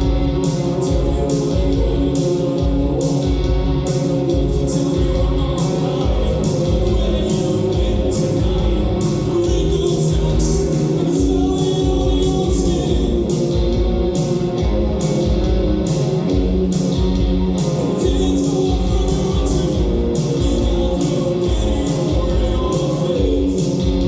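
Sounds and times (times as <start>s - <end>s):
kick drum beat: 0.0s - 24.0s
live band playing: 0.0s - 24.0s
person singing: 0.3s - 15.3s, 17.6s - 24.0s.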